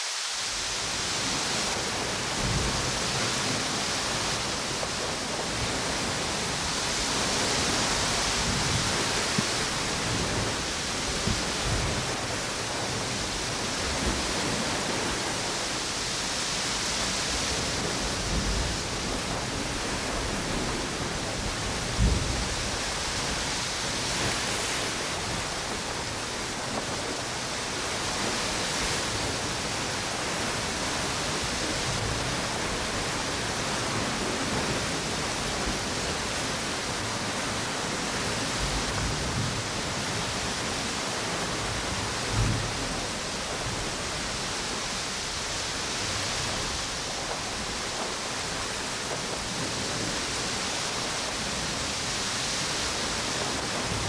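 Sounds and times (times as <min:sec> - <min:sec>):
ocean waves: 0:00.0 - 0:54.0
strong wind: 0:00.3 - 0:54.0.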